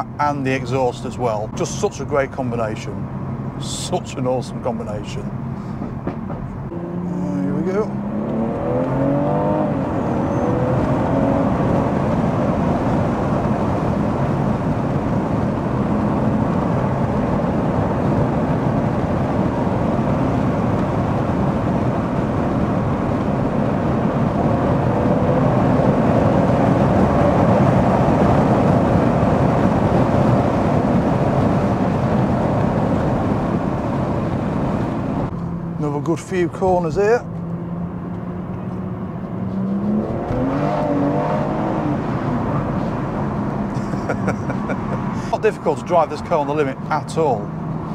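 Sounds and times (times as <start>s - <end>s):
car engine accelerating: 2.9s - 47.9s.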